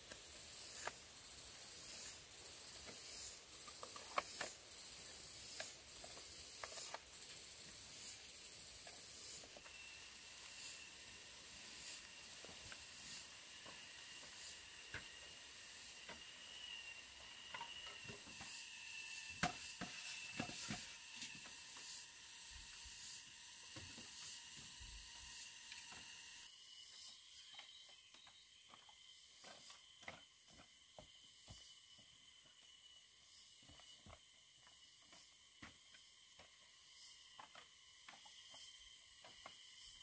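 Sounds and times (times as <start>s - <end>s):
insects buzzing: 0.0s - 40.0s.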